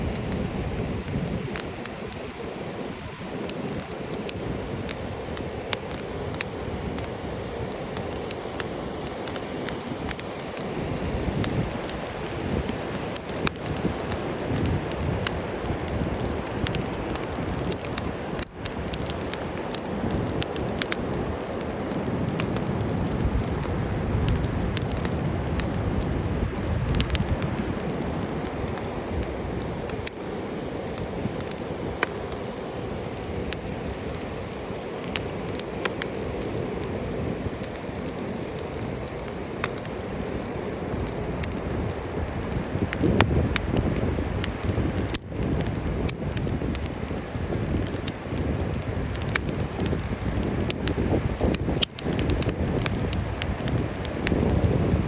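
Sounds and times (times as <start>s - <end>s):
bonfire crackling and rushing: 0.0s - 55.0s.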